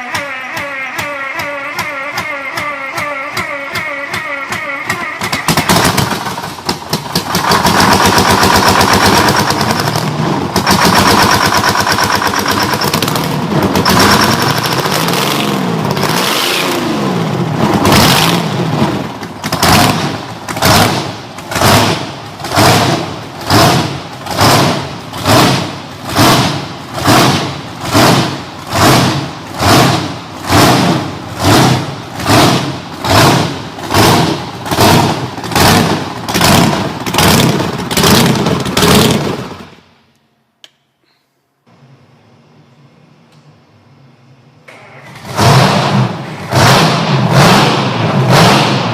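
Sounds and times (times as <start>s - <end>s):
large engine revving: 4.5s - 39.8s, 44.7s - 48.9s.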